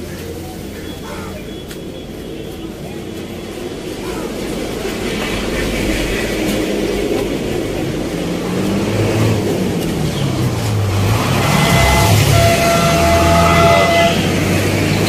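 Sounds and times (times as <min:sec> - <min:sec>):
heavy vehicle engine drone: 0:00.0 - 0:15.0
highway traffic rushing: 0:00.0 - 0:15.0.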